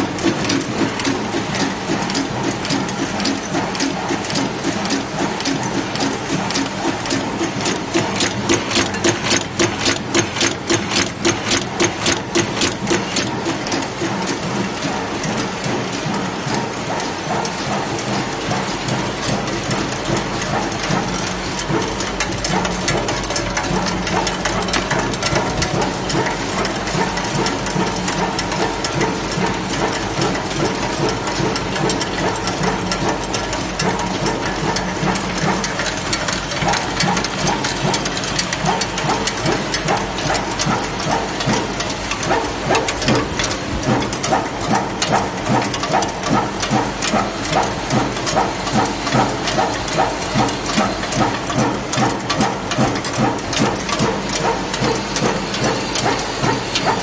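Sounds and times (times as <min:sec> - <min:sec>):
mechanical clatter: 0:00.0 - 0:57.0
screw-making machines clacking: 0:00.0 - 0:57.0.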